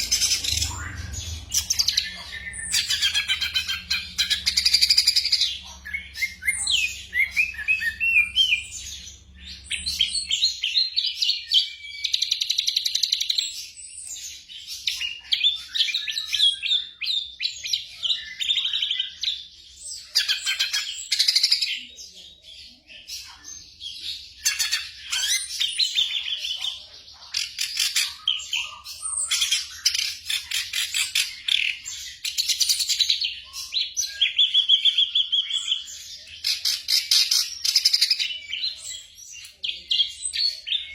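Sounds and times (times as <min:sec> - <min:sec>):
bird song chirps and trills: 0:00.0 - 0:40.9.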